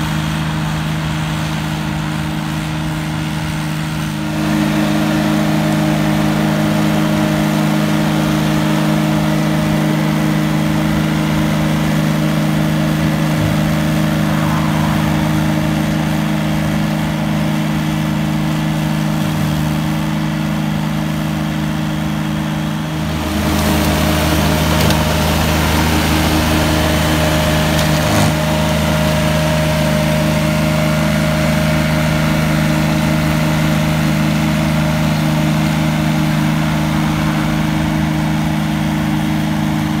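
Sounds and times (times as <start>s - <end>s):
flail mower running: 0.0s - 40.0s.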